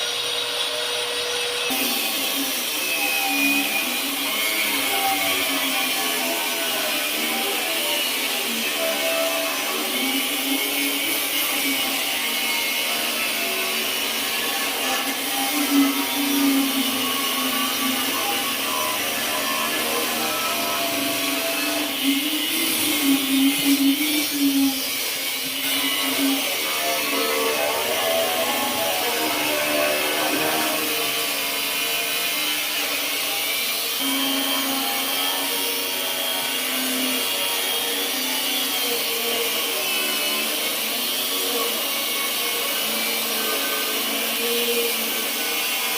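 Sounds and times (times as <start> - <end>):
angle grinder running: 0.0 - 45.9.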